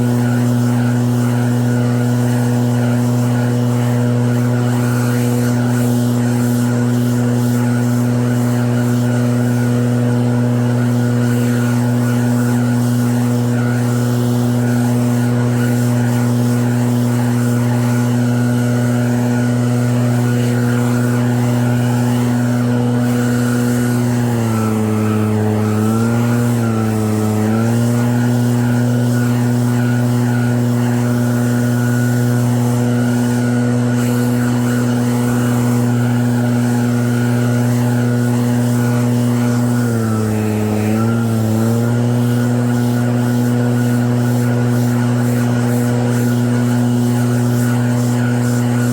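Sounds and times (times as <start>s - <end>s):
snowblower engine running: 0.0s - 48.9s.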